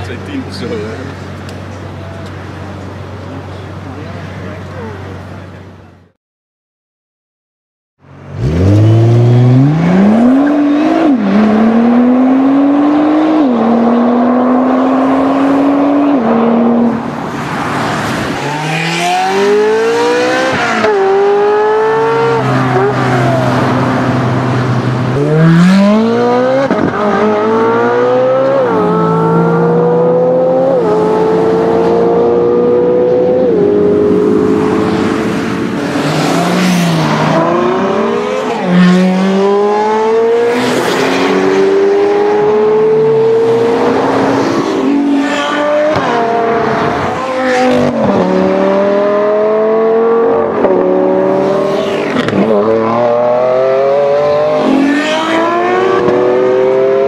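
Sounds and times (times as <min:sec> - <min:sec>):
car engine accelerating hard: 0:08.2 - 0:17.0, 0:18.1 - 0:57.0.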